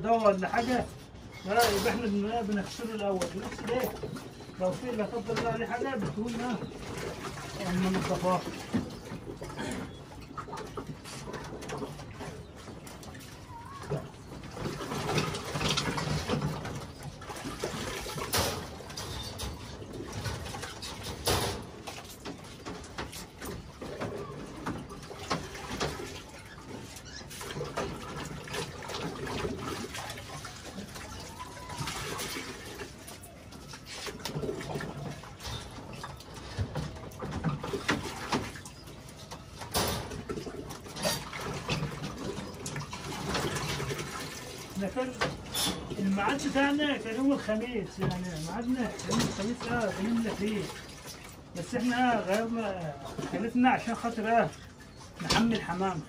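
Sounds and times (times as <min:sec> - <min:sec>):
water sloshing in a bucket: 0:00.0 - 0:56.0.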